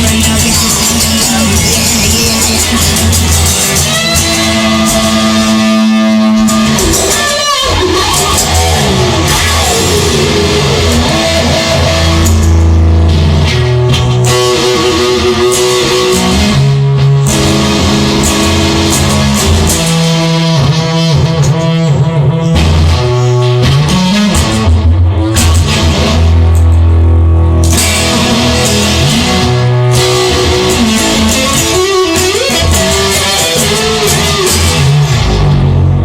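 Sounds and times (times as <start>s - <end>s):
guitar sliding down in pitch: 0.0s - 36.0s
instrumental rock music: 0.0s - 36.0s.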